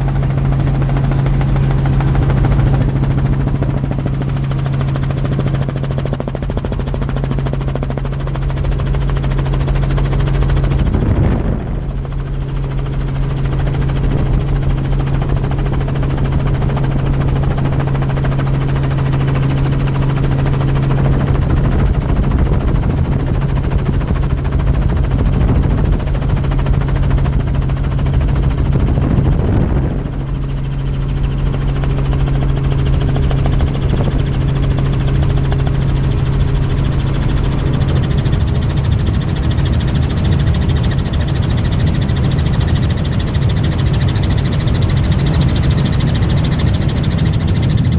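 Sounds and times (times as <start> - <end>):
helicopter turbine and rotor drone: 0.0 - 47.9.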